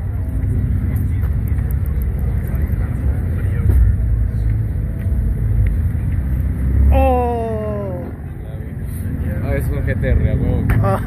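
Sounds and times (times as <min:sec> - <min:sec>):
car engines idling and passing: 0:00.0 - 0:11.0.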